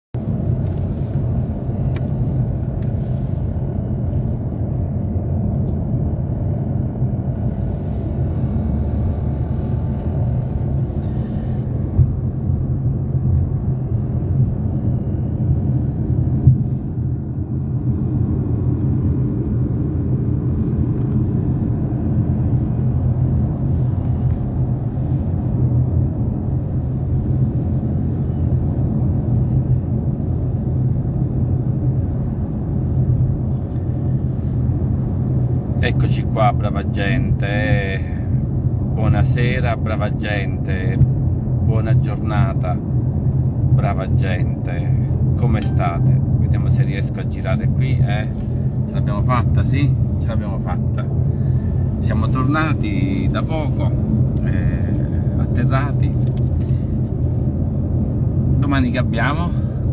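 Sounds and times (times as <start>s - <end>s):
car interior road rumble: 0.2s - 59.9s.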